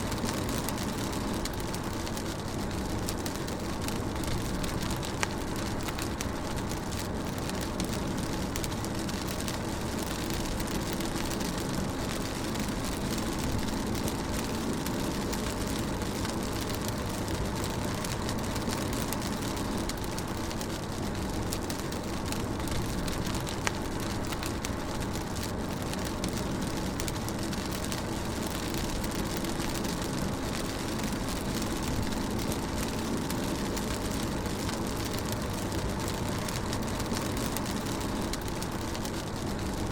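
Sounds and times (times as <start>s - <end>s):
rain on a car: 0.0s - 39.9s.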